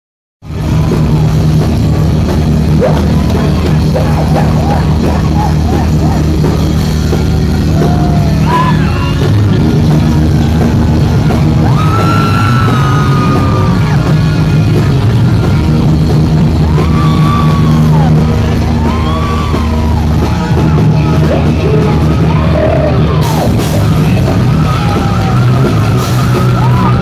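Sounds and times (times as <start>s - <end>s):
heavy metal band playing live: 0.4s - 27.0s.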